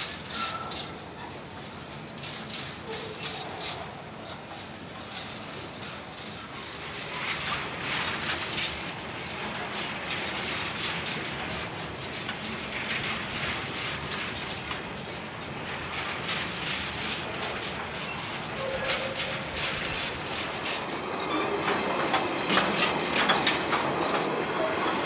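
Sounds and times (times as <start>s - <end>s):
train wheels clicking on rails: 0.0s - 25.0s.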